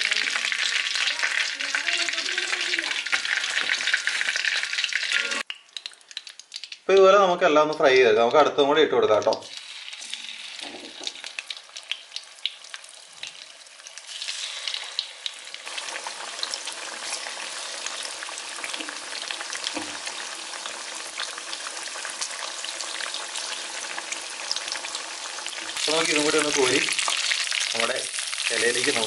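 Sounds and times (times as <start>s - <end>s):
chicken sizzling in hot oil: 0.0s - 6.9s, 9.3s - 29.0s.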